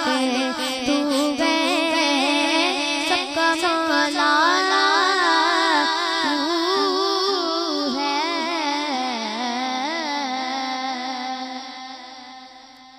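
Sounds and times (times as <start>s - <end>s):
girl singing into a microphone: 0.0s - 12.9s.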